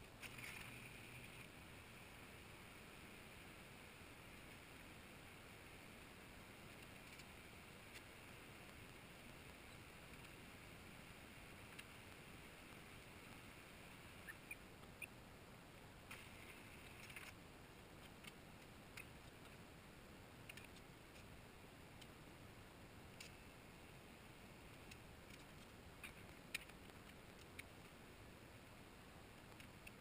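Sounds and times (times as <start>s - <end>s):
faint room hiss: 0.0s - 30.0s.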